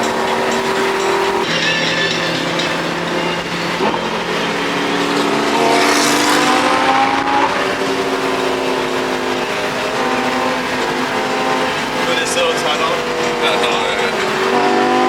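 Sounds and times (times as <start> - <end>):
car engine accelerating: 0.0 - 1.6, 2.2 - 15.0.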